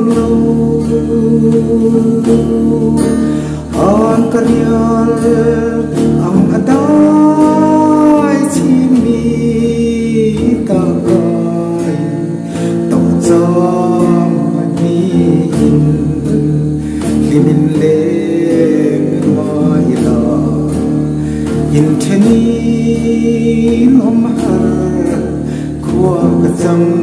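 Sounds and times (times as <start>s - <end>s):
man singing: 0.0s - 27.0s
strummed acoustic guitar: 0.0s - 27.0s.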